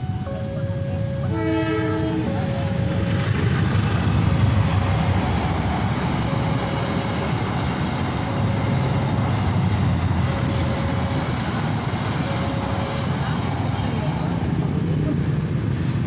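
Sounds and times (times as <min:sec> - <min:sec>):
passenger train rumbling past: 0:00.0 - 0:16.0.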